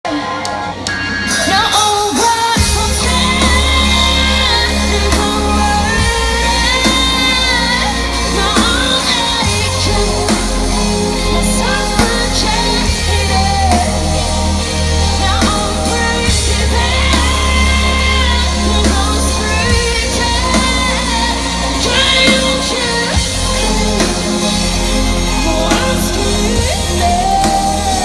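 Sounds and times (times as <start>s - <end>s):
live band playing pop-rock: 0.0s - 28.0s
woman singing: 0.0s - 28.0s.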